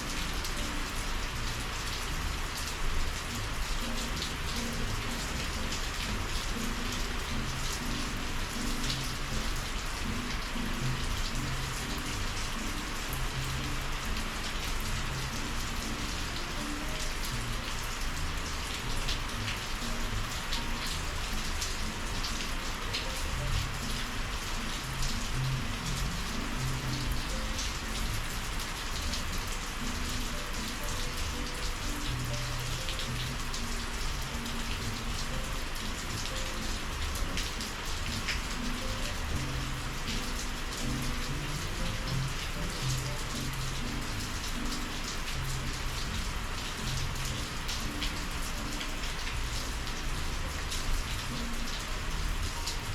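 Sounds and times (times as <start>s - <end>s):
rain falling: 0.0s - 52.9s
raindrops ticking: 0.0s - 52.9s.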